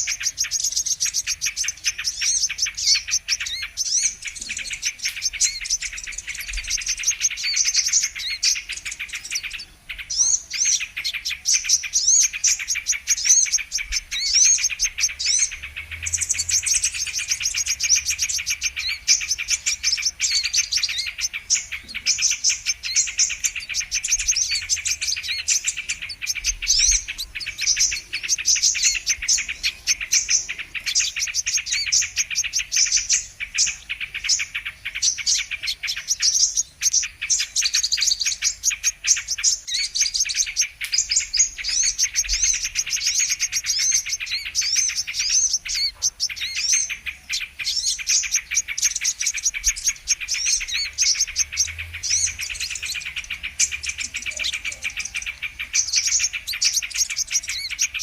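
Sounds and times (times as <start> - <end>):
sunbirds chirping and trilling: 0.0 - 58.0.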